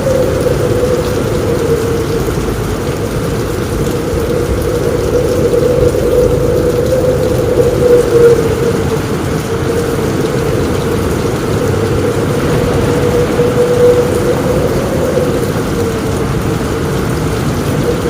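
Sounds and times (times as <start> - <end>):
heavy rain on a roof: 0.0 - 18.0.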